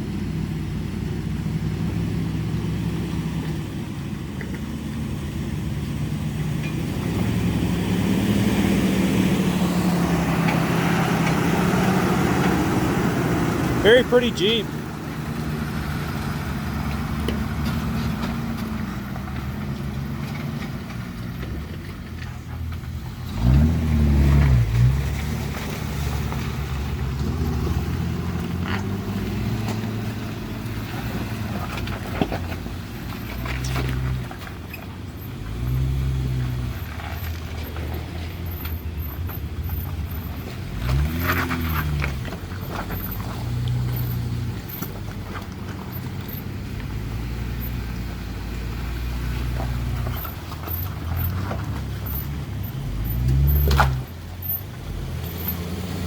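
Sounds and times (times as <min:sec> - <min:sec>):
pickup truck engine revving: 0:04.8 - 0:21.8, 0:22.4 - 0:34.5, 0:35.2 - 0:56.0.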